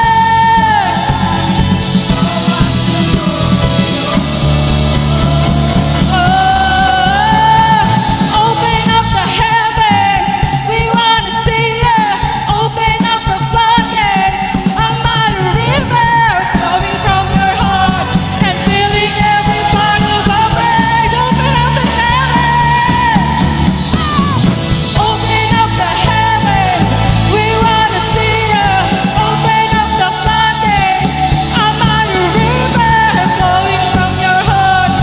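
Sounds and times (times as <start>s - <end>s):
person singing: 0.0s - 35.0s
worship band playing rock song: 0.0s - 35.0s.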